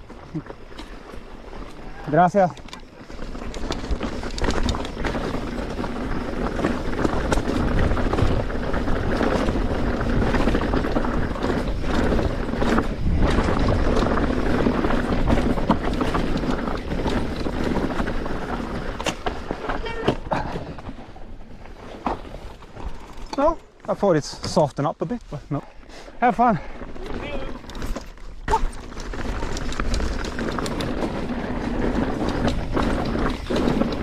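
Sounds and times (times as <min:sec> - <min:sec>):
bike rattling: 0:00.0 - 0:34.0
tyres over loose stones: 0:00.0 - 0:34.0.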